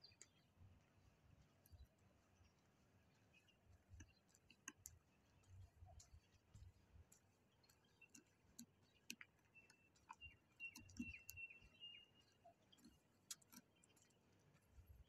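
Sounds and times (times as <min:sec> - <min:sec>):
faint clicks: 0:00.0 - 0:00.6, 0:01.4 - 0:15.0.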